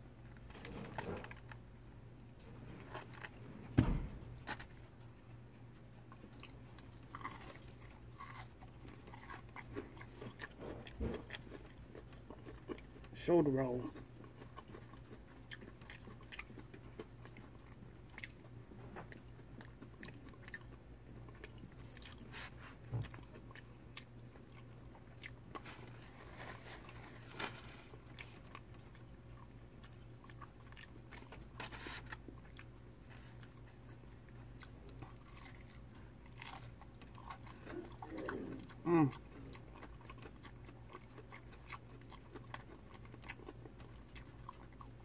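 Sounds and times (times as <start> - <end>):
chewing crispy fried fish: 0.0 - 3.6, 4.3 - 45.0.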